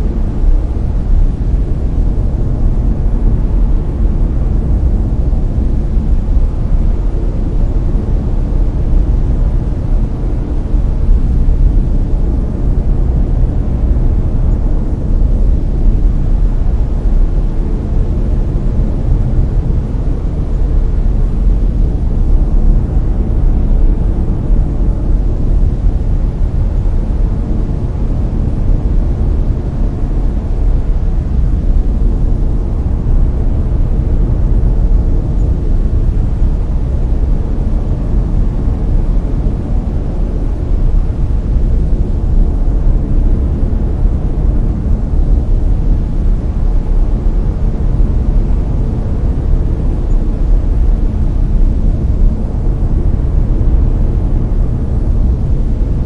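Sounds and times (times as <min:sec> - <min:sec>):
brown noise: 0:00.0 - 0:56.0.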